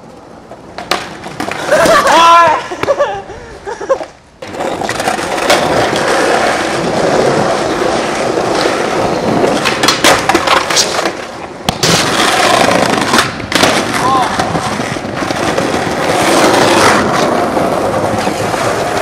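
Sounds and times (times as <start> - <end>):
skateboard popping and landing: 0.0 - 3.1, 4.0 - 19.0
skateboard wheels rolling on tiles: 0.0 - 19.0.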